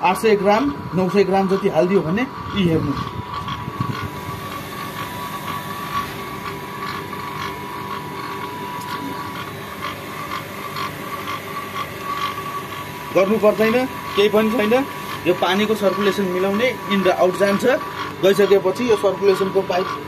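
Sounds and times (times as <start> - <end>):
pump machinery whining and humming: 0.0 - 20.0.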